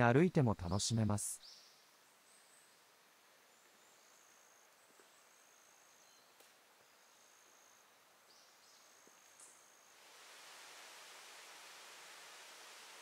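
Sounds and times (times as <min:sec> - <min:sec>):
forest ambience: 0:00.0 - 0:13.0.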